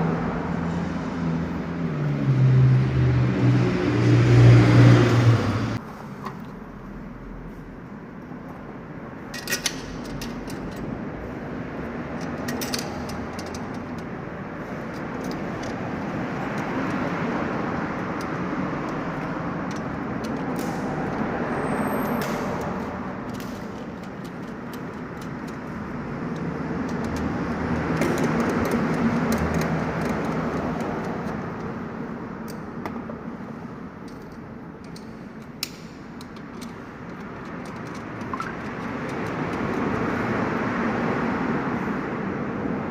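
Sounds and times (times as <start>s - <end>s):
road vehicle rush: 0.0s - 42.9s.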